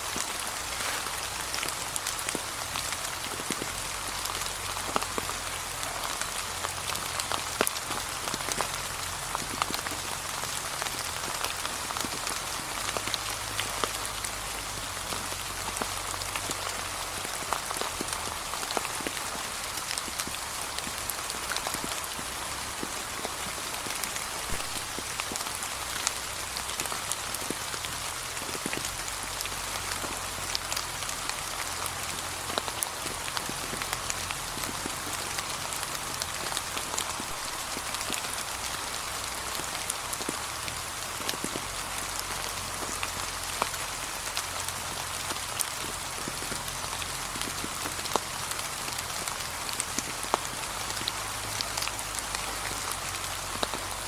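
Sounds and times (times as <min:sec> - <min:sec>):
light rain falling: 0:00.0 - 0:54.0.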